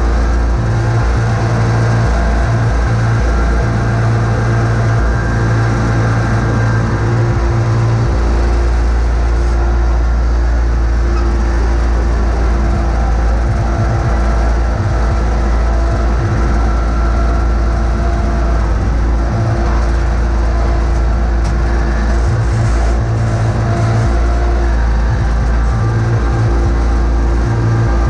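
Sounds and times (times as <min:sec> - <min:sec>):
garden tractor engine running: 0:00.0 - 0:28.0.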